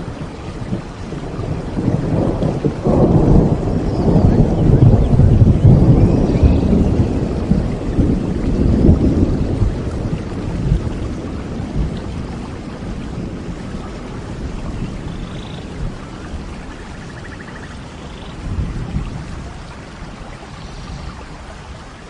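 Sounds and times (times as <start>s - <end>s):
thunder rumbling: 0.0s - 21.2s
steady rain: 0.0s - 22.0s.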